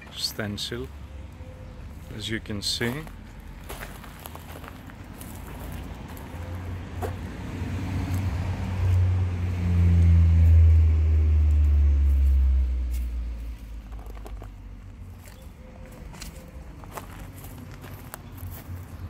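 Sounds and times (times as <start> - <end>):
motor vehicle passing: 3.0 - 19.0.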